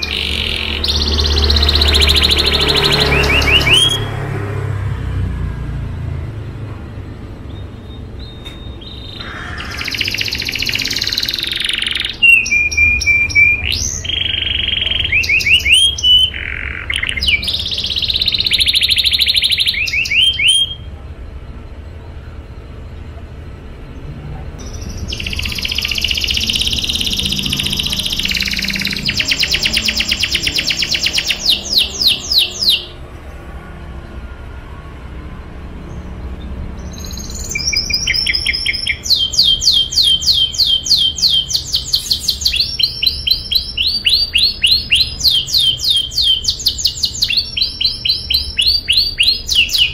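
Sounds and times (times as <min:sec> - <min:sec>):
canary singing: 0:00.0 - 0:21.0, 0:24.4 - 0:49.9.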